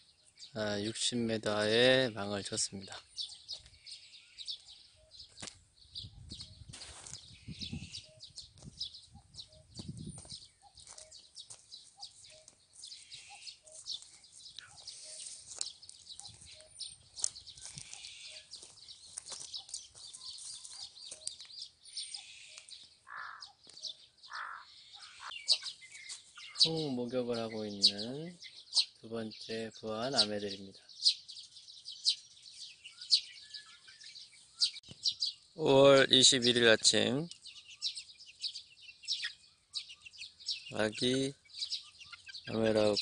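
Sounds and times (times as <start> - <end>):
birds chirping and calling: 0.0 - 43.0.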